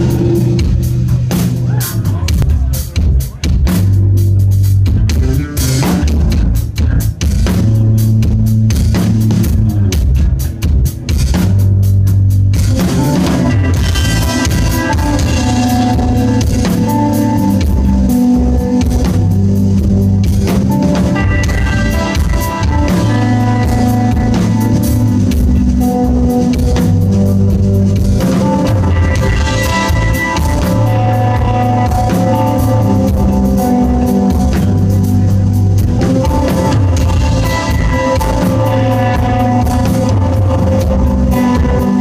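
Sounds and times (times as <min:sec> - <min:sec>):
drum kit: 0:00.0 - 0:42.0
electric bass: 0:00.0 - 0:42.0
electric guitar melody: 0:00.0 - 0:42.0.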